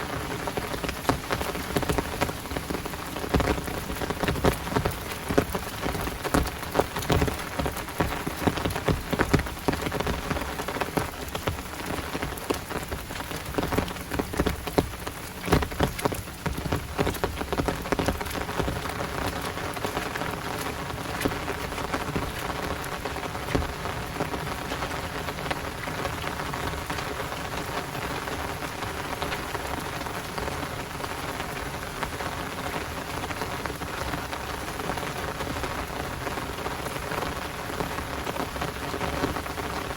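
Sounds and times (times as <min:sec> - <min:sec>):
close raindrop hits: 0:00.0 - 0:39.9
heavy rain: 0:00.0 - 0:39.9.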